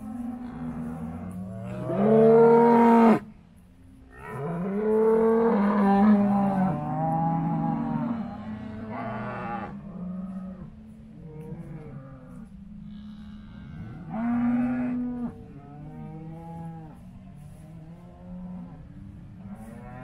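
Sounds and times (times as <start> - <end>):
cows mooing: 0.0 - 3.2, 4.2 - 17.0.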